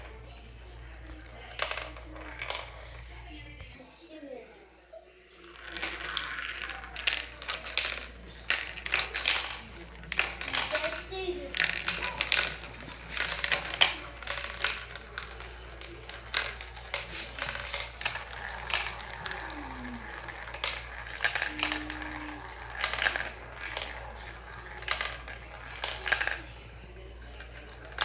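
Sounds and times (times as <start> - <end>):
marbles clattering down marble run: 0.0 - 3.2, 5.4 - 28.0.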